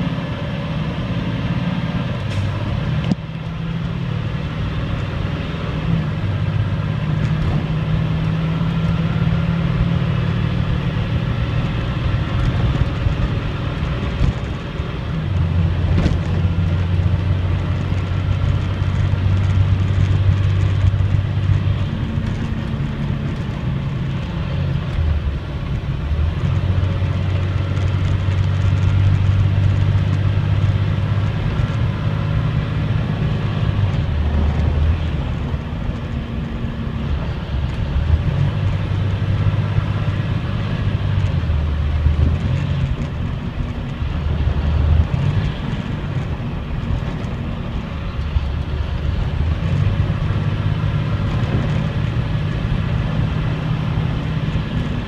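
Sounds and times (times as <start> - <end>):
bus diesel engine drone: 0.0 - 55.0
road and cabin noise: 0.0 - 55.0.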